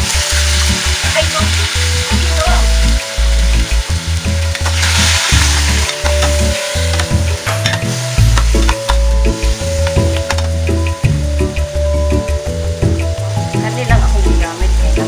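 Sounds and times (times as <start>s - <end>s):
background music with bass: 0.0s - 15.0s
meat sizzling in a pot: 0.0s - 15.0s.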